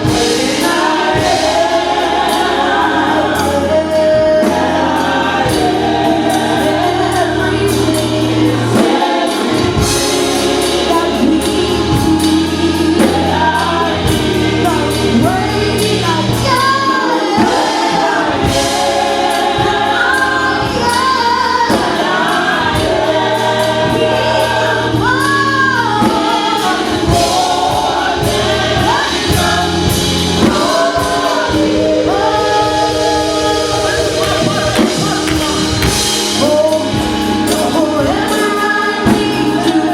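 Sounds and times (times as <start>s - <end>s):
choir singing: 0.0s - 39.9s
instrumental accompaniment: 0.0s - 39.9s.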